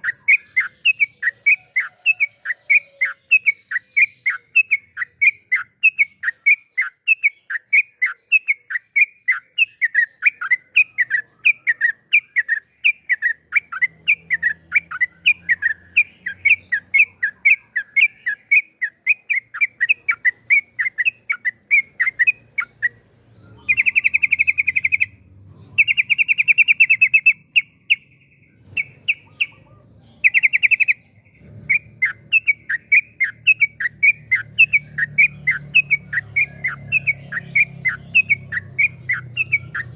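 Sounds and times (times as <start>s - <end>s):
bird chirping: 0.0s - 39.9s
buzzy bird trills: 0.0s - 39.9s.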